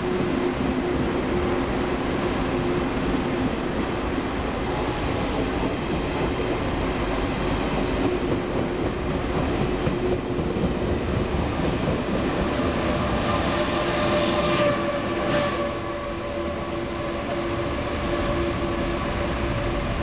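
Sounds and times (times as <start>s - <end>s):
train carriages rolling past: 0.0s - 20.0s.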